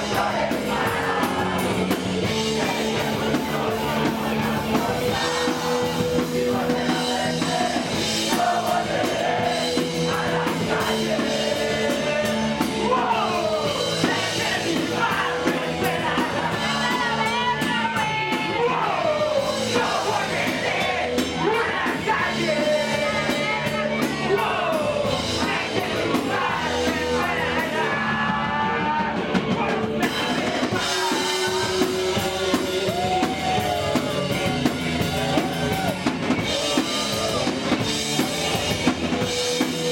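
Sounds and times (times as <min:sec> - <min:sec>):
drum kit: 0:00.0 - 0:39.9
electric guitar: 0:00.0 - 0:39.9
vocals sung and yelled: 0:00.0 - 0:39.9.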